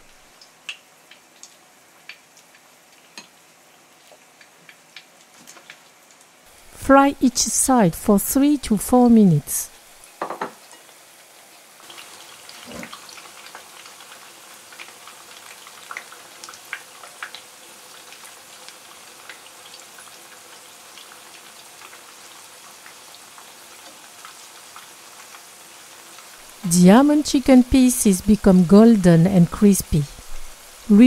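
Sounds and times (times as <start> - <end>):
chicken frying in hot oil: 0.0 - 9.2, 9.8 - 31.0.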